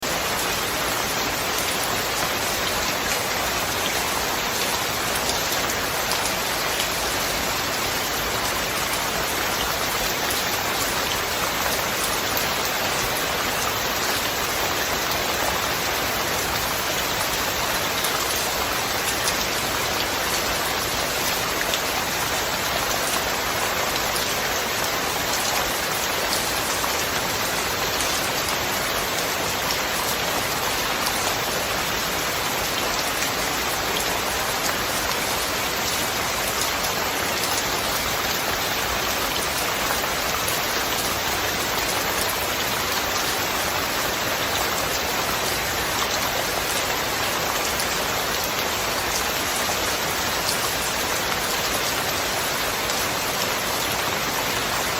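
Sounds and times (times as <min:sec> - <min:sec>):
steady rain hissing: 0:00.0 - 0:54.9.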